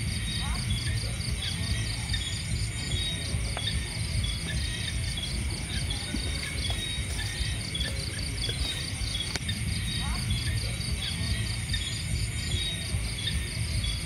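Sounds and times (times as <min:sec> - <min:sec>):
crickets and insects chirping: 0:00.0 - 0:14.0
low steady rumble: 0:00.0 - 0:14.0.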